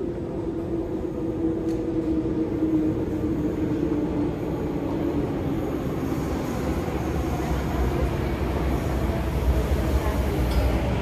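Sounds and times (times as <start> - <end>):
train rumble with hum: 0.0 - 11.0.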